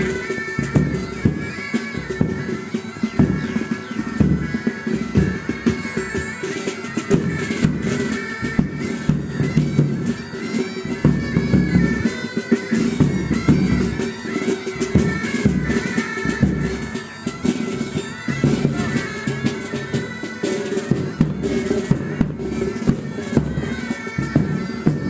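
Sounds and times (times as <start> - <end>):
bagpipes melody over drones: 0.0 - 25.0
drums striking: 0.0 - 25.0.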